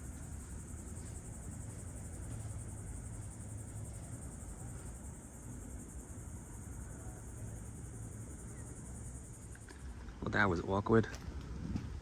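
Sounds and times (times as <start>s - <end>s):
insect chorus trilling: 0.0s - 9.9s.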